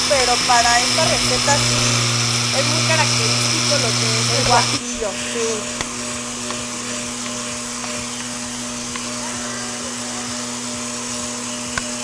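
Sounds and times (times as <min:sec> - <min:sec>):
blender running: 0:00.0 - 0:12.0.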